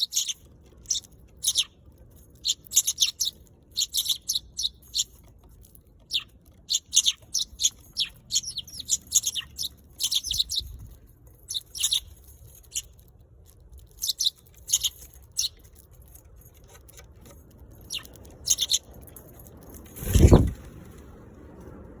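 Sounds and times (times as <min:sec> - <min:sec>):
sparrows chirping: 0:00.0 - 0:20.6.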